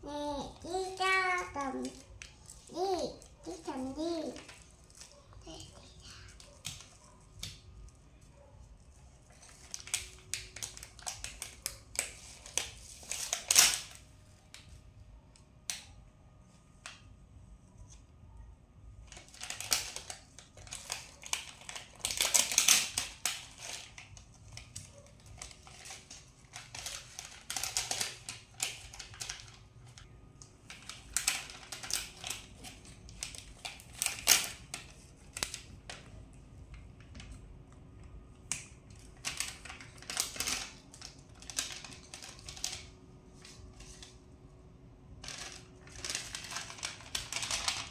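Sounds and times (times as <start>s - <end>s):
sticker sheets crinkling: 0.6s - 14.0s, 19.0s - 44.3s, 45.2s - 47.9s.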